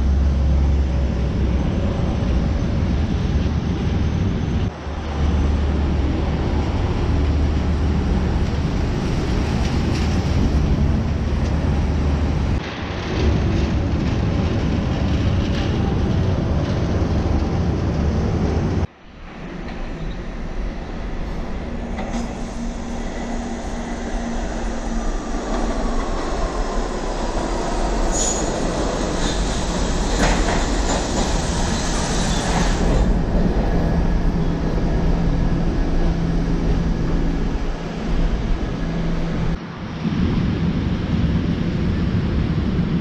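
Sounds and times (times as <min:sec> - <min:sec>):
rushing street noise: 0:00.0 - 0:43.0
subway train rumbling on rails: 0:00.0 - 0:43.0.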